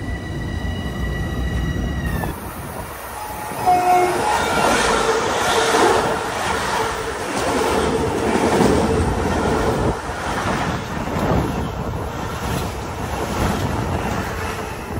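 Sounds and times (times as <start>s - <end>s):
train wheels on rails: 0.0s - 14.9s.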